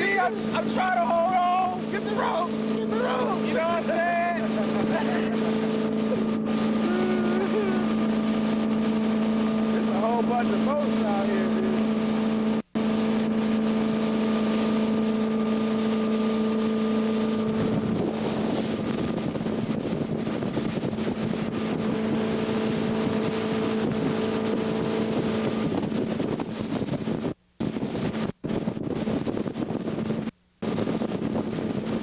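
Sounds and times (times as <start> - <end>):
rushing water: 0.0 - 27.3
boat motor running: 0.0 - 32.0
wind noise on microphone: 0.0 - 32.0.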